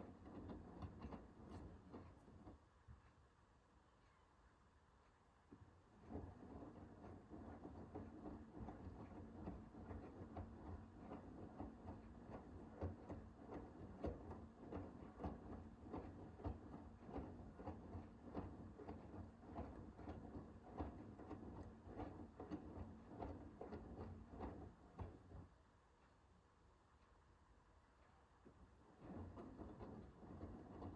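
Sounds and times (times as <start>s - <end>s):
washing machine motor hum: 0.0s - 3.1s, 5.5s - 25.7s, 28.2s - 30.9s.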